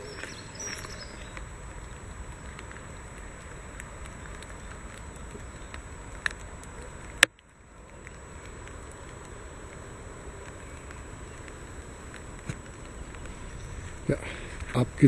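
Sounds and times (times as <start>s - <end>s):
faint crackles: 0.0s - 15.0s.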